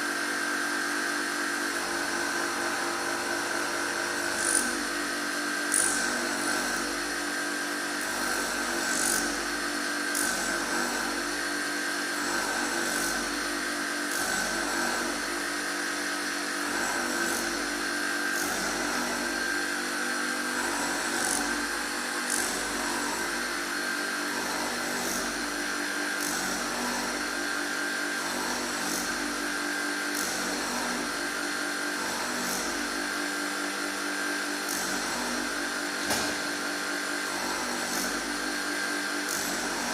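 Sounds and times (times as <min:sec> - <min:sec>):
grinding machine whining: 0:00.0 - 0:39.9.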